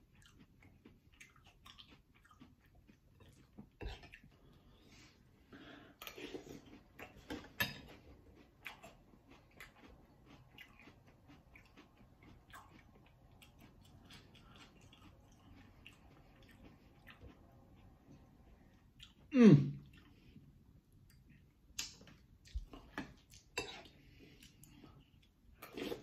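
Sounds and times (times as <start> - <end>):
person chewing crunchy cereal: 0.0 - 4.8, 5.9 - 20.5, 21.1 - 26.0.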